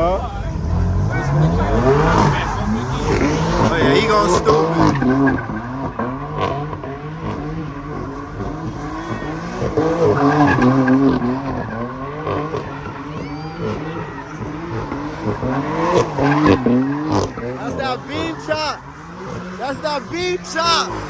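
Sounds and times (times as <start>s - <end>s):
car engine revving: 0.0s - 21.0s
tyres squealing: 1.0s - 21.0s.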